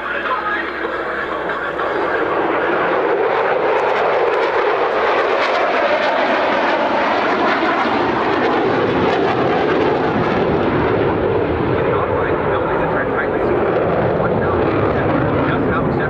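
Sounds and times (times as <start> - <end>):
jet engine roaring with crackle: 0.0 - 16.0.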